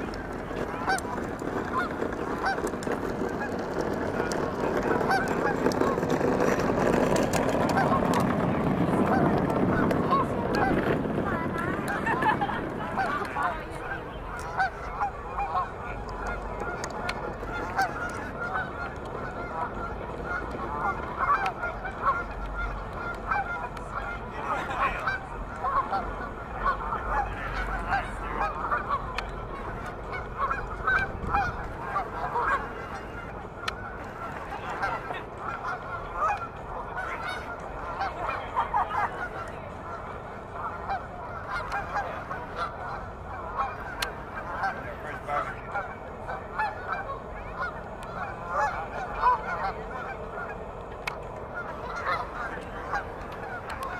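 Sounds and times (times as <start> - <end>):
geese honking: 0.0 - 53.9.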